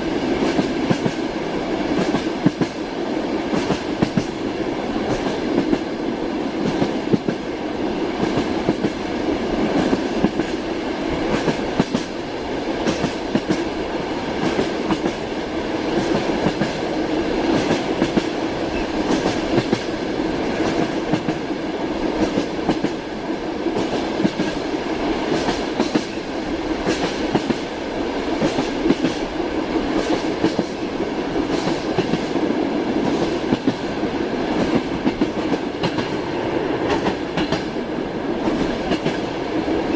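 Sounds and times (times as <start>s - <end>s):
clickety-clack of train wheels: 0.0s - 39.9s
train rolling rumble: 0.0s - 39.9s.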